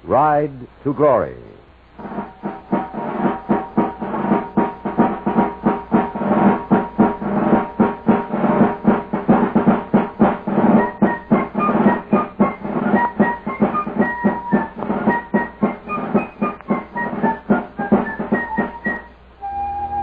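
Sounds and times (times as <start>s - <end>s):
held chords: 1.6s - 20.0s
drum beating fast rhythm: 1.9s - 19.2s
higher melody: 2.0s - 20.0s.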